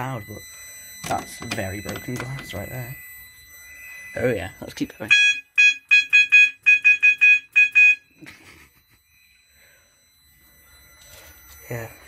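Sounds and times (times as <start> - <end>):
fire alarm pulsing beeps: 0.0 - 12.0.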